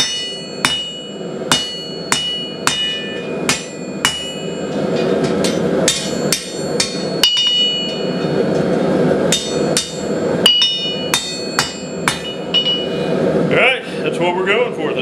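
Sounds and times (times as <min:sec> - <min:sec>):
hammer striking steel on anvil: 0:00.0 - 0:08.7, 0:09.3 - 0:13.0.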